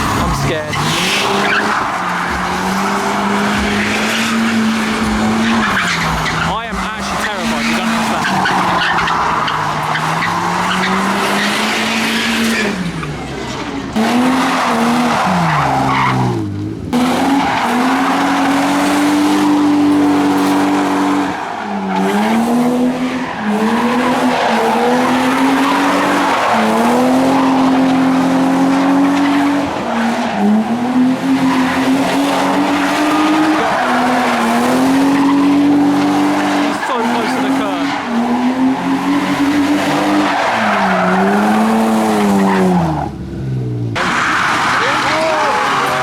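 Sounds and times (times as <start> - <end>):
tyres squealing: 0.0 - 16.4, 17.0 - 43.0, 44.0 - 46.0
car engine revving hard: 0.0 - 46.0.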